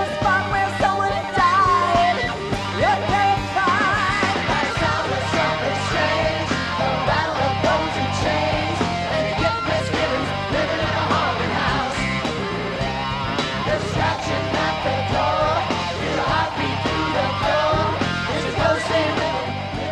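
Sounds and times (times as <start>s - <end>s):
electric guitar: 0.0s - 19.9s
live rock band playing: 0.0s - 19.9s.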